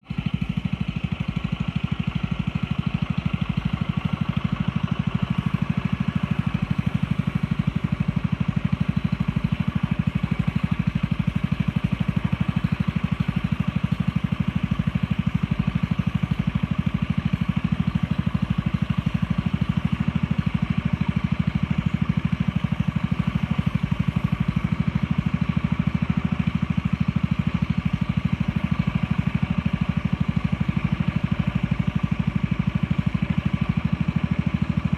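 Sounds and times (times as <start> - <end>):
boat engine chugging: 0.0 - 34.9.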